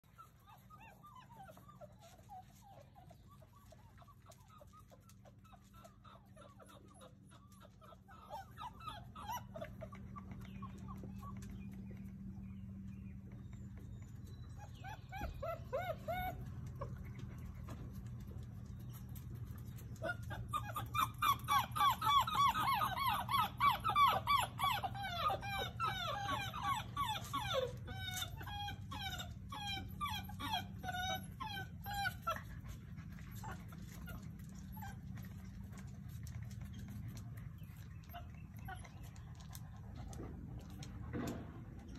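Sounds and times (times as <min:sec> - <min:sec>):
puppies whining and yipping: 0:00.0 - 0:41.9.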